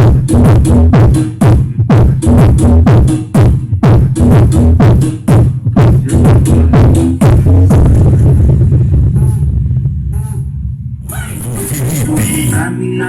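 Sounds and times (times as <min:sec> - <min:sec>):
funk music through car speakers: 0:00.0 - 0:13.0.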